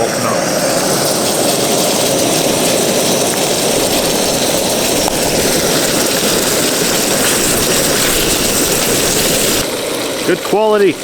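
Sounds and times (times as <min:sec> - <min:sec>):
stove burner roaring: 0:00.0 - 0:11.0.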